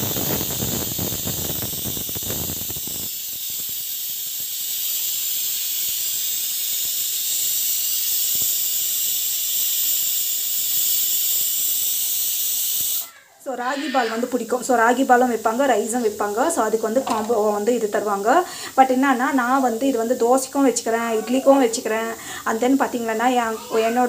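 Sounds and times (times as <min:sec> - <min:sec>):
pressure cooker whistle hissing: 0:00.0 - 0:24.0.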